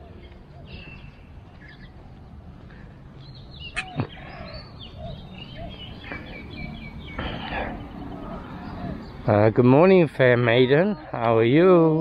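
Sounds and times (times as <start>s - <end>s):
birds chirping and calling: 0.0s - 12.0s
outdoor background noise: 0.0s - 12.0s.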